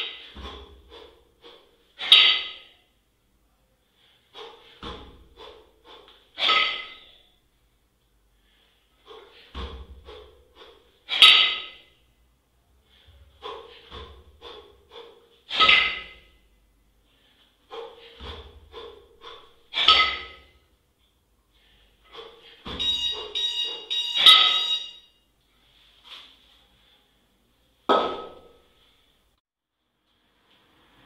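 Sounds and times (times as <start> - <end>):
heavy rhythmic breathing: 0.0 - 3.0, 3.7 - 27.6.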